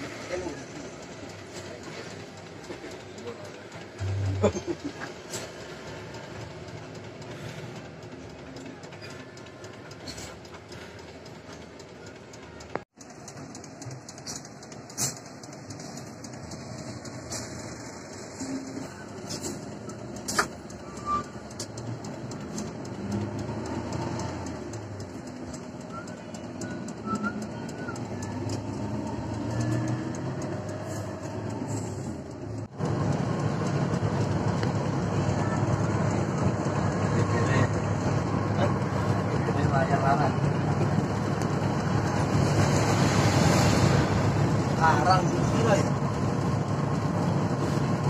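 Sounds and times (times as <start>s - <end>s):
bus engine and road rumble: 0.0s - 48.0s.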